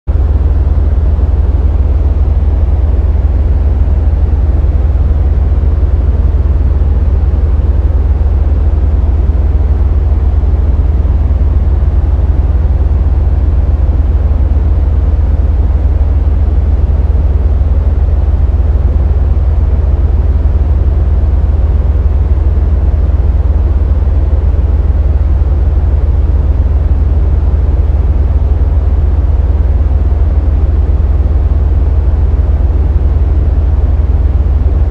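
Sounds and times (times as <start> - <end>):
deep synthesized rumble: 0.1 - 34.9.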